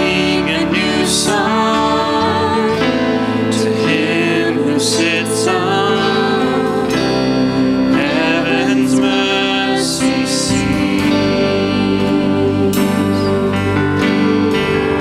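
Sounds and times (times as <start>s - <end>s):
keyboard and band accompaniment: 0.0s - 15.0s
voices singing worship song: 0.0s - 15.0s.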